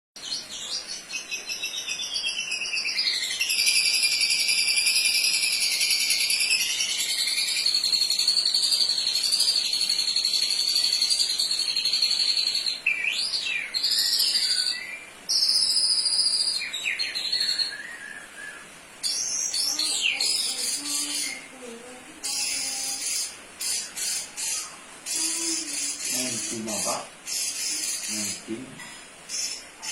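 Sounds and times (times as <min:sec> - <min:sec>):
bird singing trills and whistles: 0:00.2 - 0:21.6, 0:22.2 - 0:28.7, 0:29.3 - 0:29.9.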